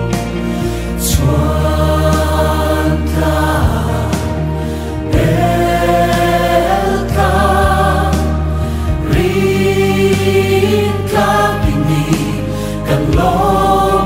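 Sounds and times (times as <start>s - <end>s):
choir singing slow hymn: 0.0s - 14.0s.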